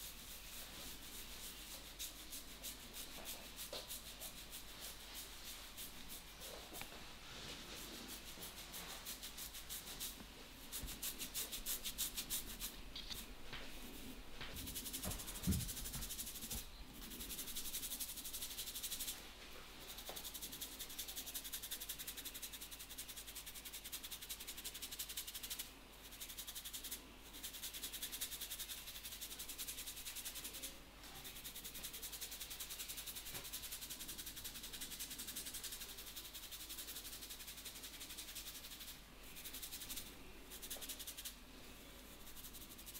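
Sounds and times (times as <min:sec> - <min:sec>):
hands rubbing hair and scalp: 0:00.0 - 0:19.2, 0:19.8 - 0:41.4, 0:42.0 - 0:42.9.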